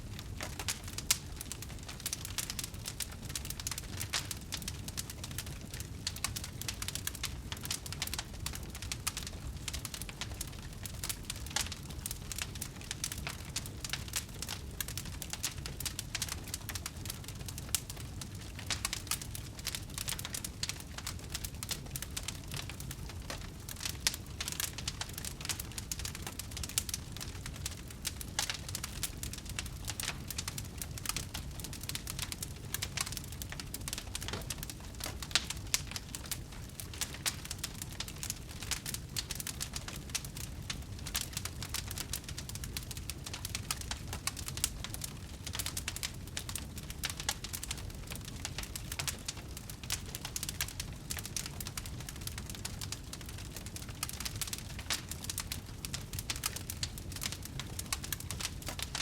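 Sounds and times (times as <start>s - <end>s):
low rumble of flame: 0.0s - 59.0s
wood fire crackling and popping: 0.0s - 59.0s.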